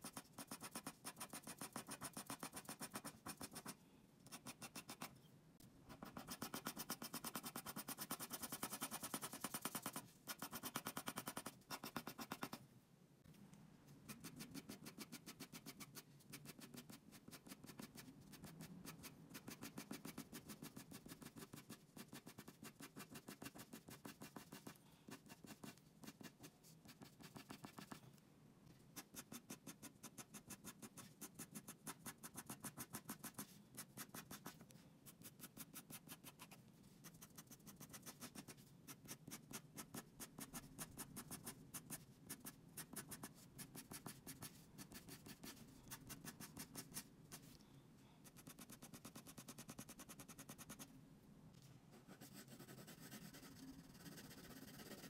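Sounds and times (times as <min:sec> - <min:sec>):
pencil scratching on paper: 0:00.0 - 0:05.1, 0:05.9 - 0:12.6, 0:14.1 - 0:28.0, 0:29.0 - 0:47.5, 0:52.0 - 0:55.0.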